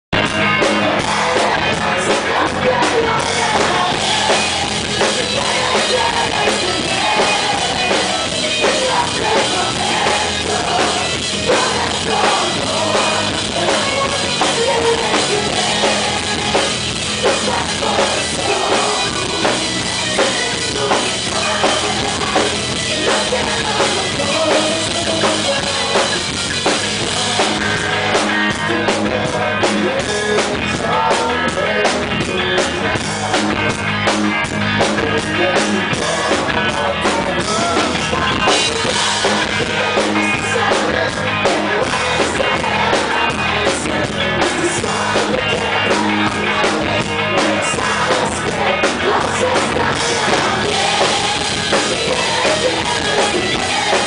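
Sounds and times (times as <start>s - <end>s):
drum kit beat: 0.1s - 54.0s
electric guitars: 0.1s - 54.0s.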